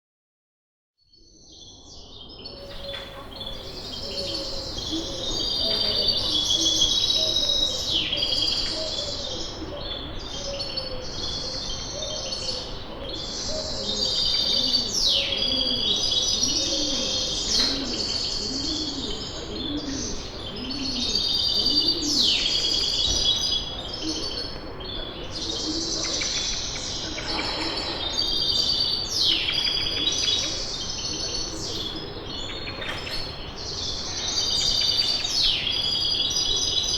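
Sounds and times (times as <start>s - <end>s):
small birds chirping chorus: 1.0s - 36.9s
lower repeated bird calls: 2.6s - 36.9s.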